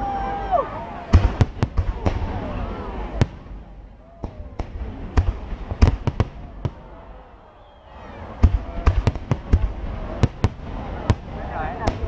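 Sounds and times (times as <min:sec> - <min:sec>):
fireworks bangs: 0:01.0 - 0:12.0.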